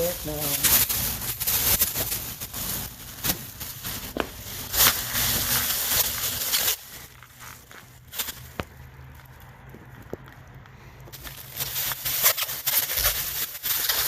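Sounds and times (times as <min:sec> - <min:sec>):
rustling crinkling handling: 0:00.0 - 0:14.0.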